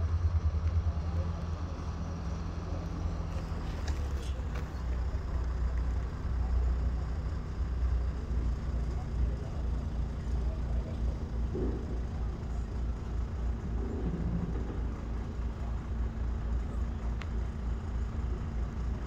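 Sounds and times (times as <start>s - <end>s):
distant diesel locomotive rumbling: 0.0s - 19.0s.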